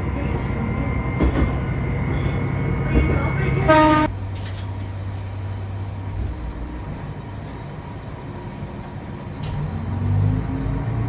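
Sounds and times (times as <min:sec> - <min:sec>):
diesel railcar engine humming: 0:00.0 - 0:11.0.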